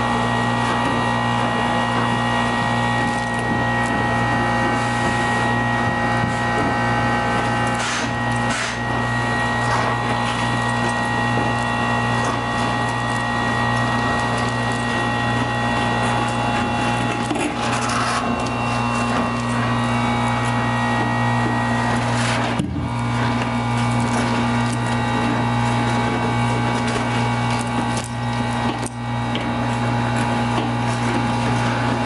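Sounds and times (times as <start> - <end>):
industrial vacuum humming and whining: 0.0 - 32.0
vacuum hose sucking powder: 0.0 - 32.0.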